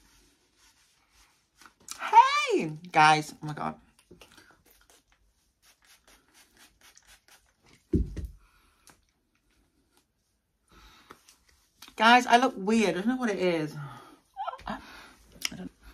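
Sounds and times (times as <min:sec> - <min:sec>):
rustling of hair and clothing: 0:00.0 - 0:15.9.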